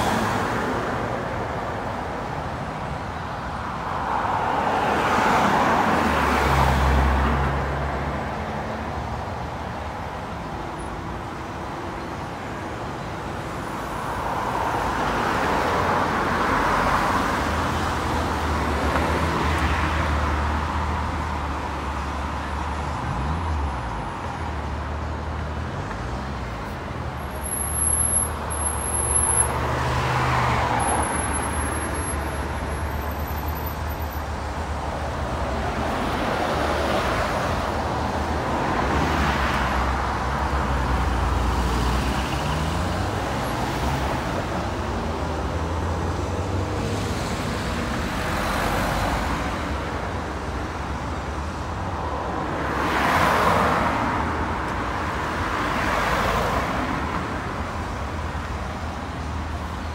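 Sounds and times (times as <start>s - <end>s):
vehicles passing close by: 0.0s - 59.9s.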